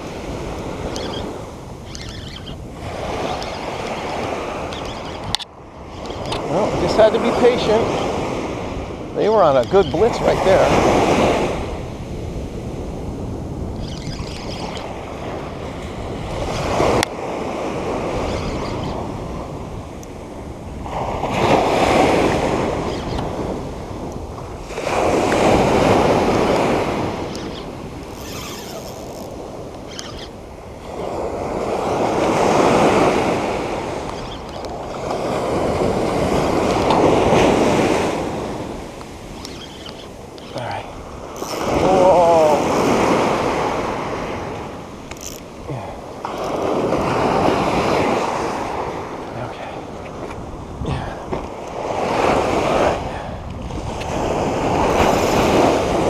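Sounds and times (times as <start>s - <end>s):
small waves breaking on beach: 0.0s - 56.0s.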